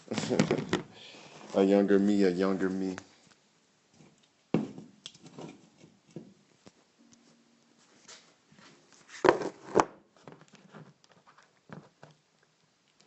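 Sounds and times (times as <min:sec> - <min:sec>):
handling noises: 0:00.0 - 0:01.7, 0:02.5 - 0:12.3.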